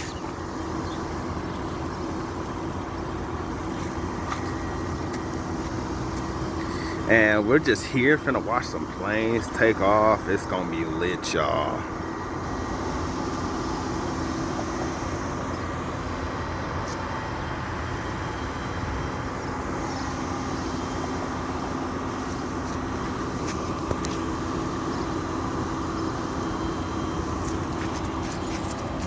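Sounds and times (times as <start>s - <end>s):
vehicle drone: 0.0s - 29.0s.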